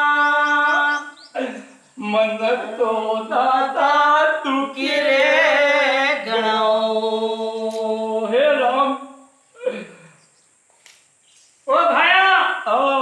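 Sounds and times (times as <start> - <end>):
person singing folk song: 0.0 - 10.1, 11.7 - 13.0.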